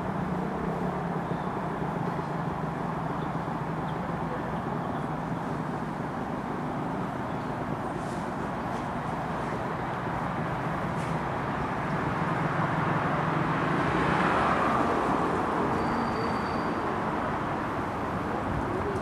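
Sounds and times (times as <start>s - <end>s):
passing vehicle rumble: 0.0s - 19.0s.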